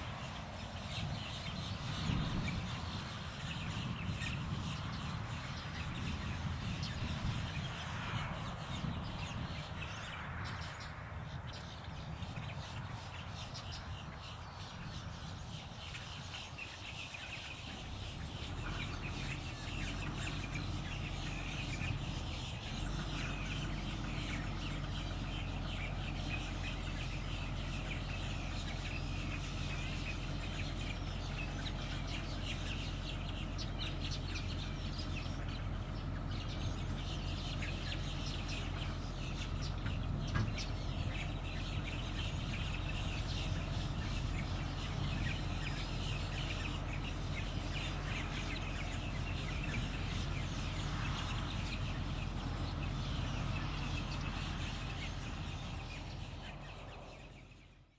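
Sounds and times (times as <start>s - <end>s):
birds calling and chirping: 0.0s - 57.9s.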